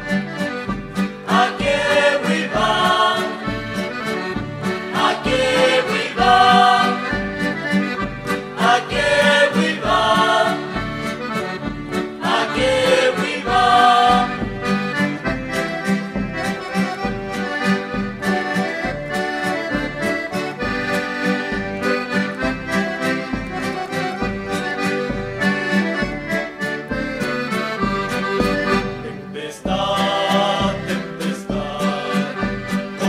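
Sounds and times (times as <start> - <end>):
accordion folk tune: 0.0 - 33.0
steady beat: 0.1 - 29.1, 29.7 - 33.0.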